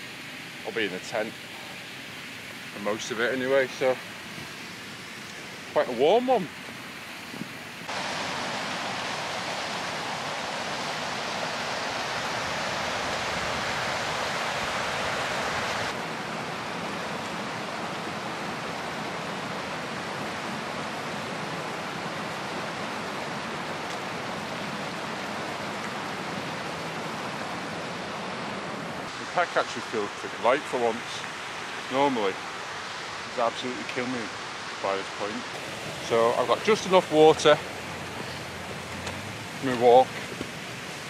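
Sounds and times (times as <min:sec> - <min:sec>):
flowing water rushing: 0:00.0 - 0:41.0.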